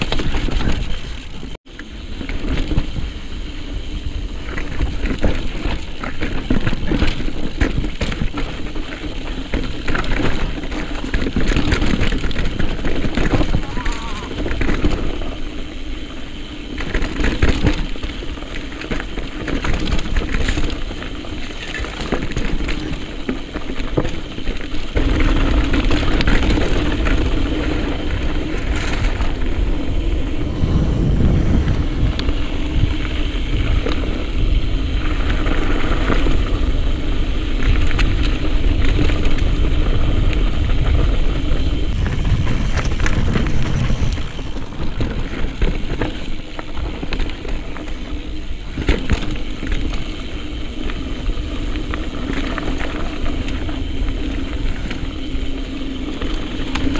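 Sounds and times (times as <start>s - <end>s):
bike rattling over rocks: 0.0s - 56.9s
steady rushing noise: 0.0s - 56.9s.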